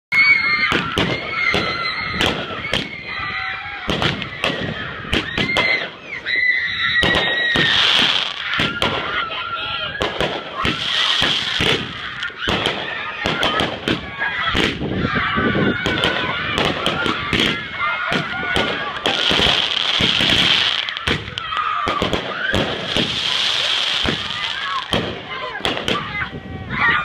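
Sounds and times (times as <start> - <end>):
fireworks whistling: 0.2 - 3.3, 3.9 - 14.9, 15.8 - 26.1
fireworks bangs and crackles: 0.2 - 26.7.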